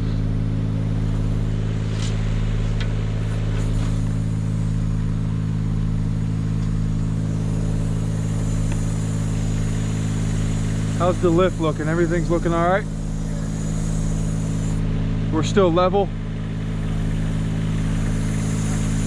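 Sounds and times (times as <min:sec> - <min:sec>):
aerial lift engine humming: 0:00.0 - 0:19.0.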